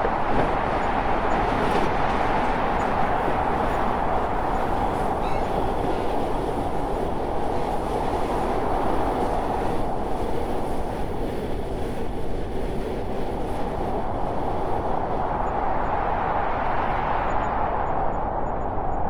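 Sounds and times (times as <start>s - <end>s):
train running on track: 0.0s - 16.8s.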